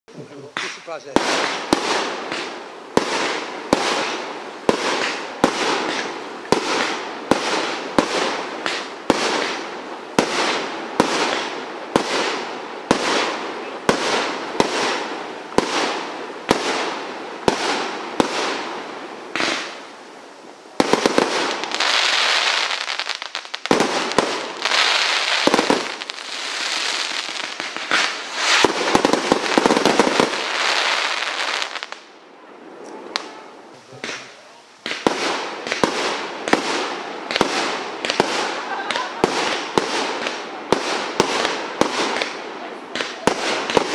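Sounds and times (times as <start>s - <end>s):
firework shots: 0.4s - 20.0s, 20.7s - 32.1s, 33.1s - 43.9s
rapid firework shots and crackle: 0.5s - 19.9s, 20.7s - 32.1s, 33.2s - 43.9s.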